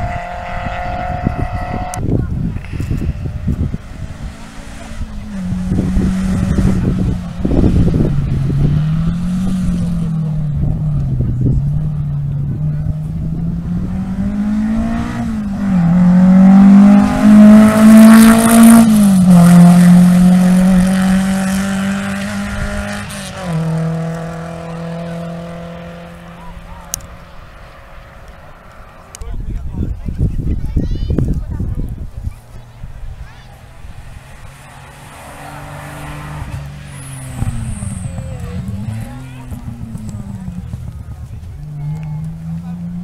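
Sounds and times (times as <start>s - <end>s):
rally car engine revving past: 0.0s - 29.1s, 32.9s - 43.0s.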